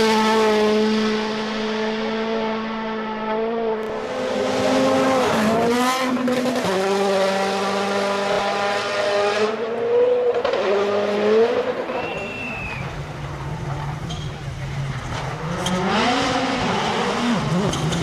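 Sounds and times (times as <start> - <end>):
rally car engine at high revs: 0.0 - 18.0.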